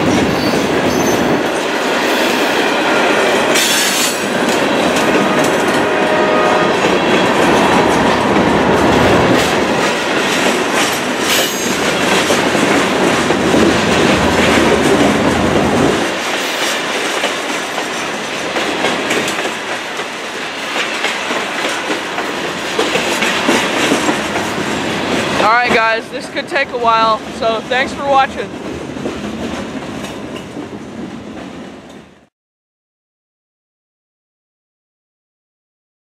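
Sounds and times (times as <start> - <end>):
train wheels rumbling on rails: 0.0 - 32.3.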